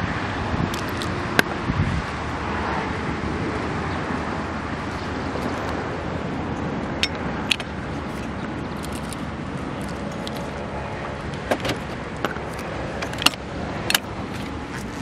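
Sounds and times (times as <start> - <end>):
distant traffic: 0.0 - 15.0
wind: 0.0 - 15.0.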